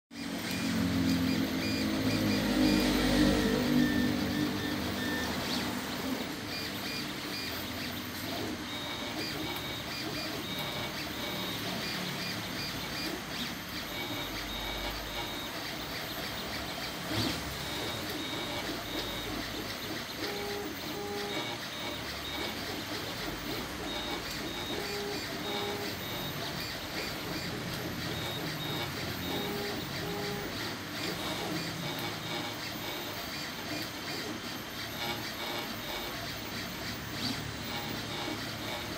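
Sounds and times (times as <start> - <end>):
stepper motors singing: 0.2 - 38.9.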